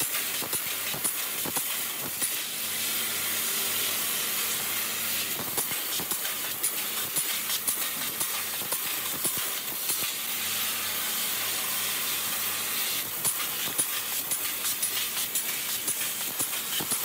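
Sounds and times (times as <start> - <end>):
laser cutting machine hiss: 0.0 - 17.0.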